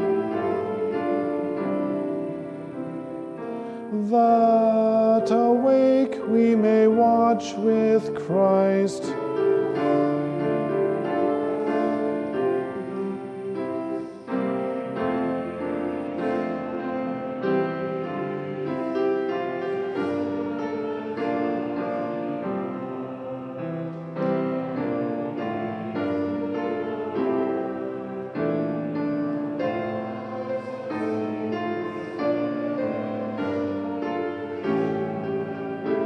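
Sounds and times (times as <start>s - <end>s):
church keyboard playing hymn chords: 0.0s - 36.0s
people singing canticle: 0.0s - 36.0s.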